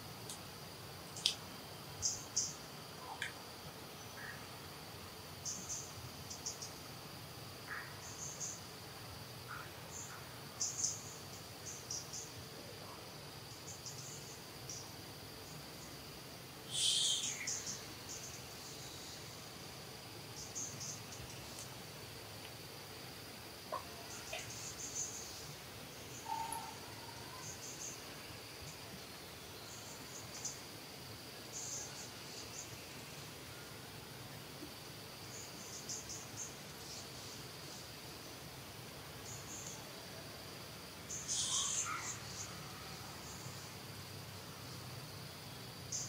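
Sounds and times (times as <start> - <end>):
insects droning: 0.0 - 46.0.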